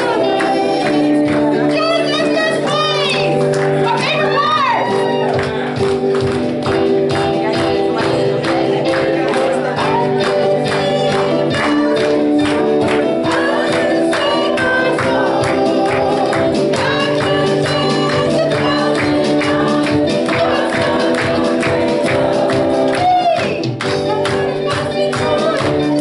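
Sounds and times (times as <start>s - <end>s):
voices singing: 0.0s - 4.5s, 7.2s - 26.0s
keyboard chords: 0.0s - 26.0s.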